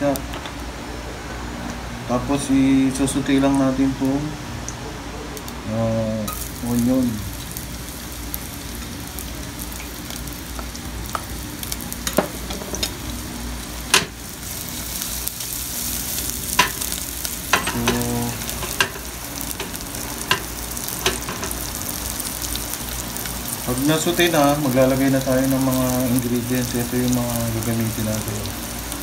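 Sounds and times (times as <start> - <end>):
onion sizzling in oil: 5.4 - 29.0.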